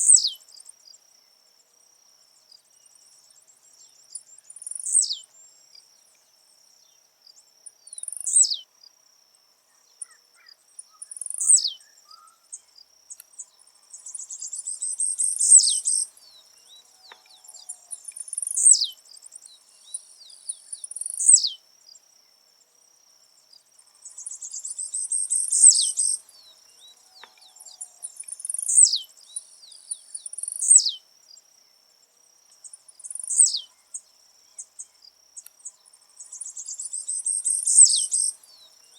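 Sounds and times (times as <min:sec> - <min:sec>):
bird singing: 0:00.0 - 0:01.4, 0:02.2 - 0:09.0, 0:09.6 - 0:22.6, 0:23.4 - 0:31.9, 0:32.5 - 0:38.9
high insect drone: 0:00.0 - 0:38.9.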